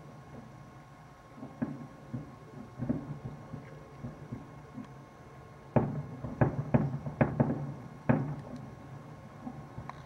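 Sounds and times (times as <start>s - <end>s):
distant fireworks bursting: 0.0s - 10.0s
steady low hum: 0.0s - 10.0s.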